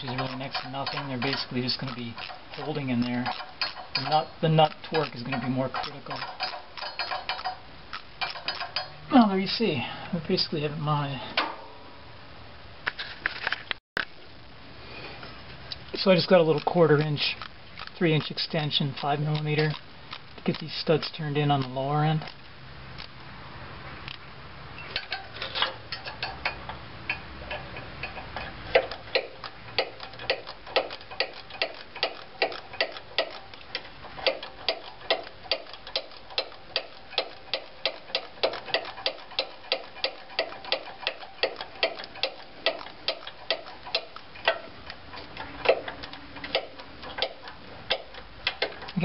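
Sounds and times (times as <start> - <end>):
ratchet clicking: 0.0 - 9.0, 16.0 - 23.2, 25.0 - 49.0.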